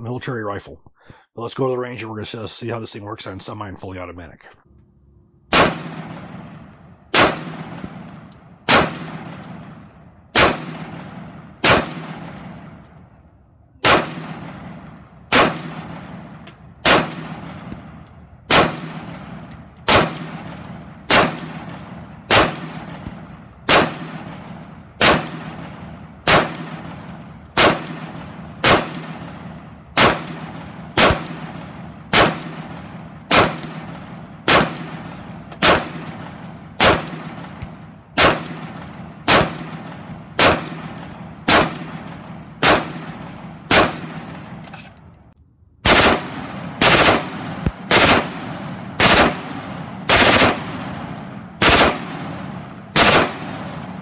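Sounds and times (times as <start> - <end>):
rifle shots with ringing echo: 5.5 - 13.2, 13.8 - 54.0.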